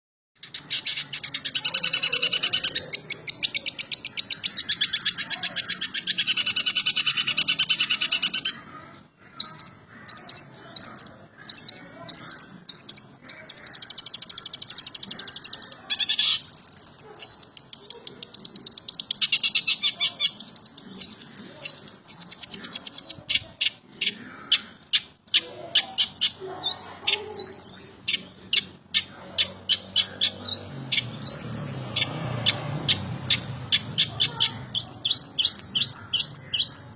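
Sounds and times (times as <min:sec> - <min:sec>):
bird singing high chatter: 0:00.4 - 0:36.9.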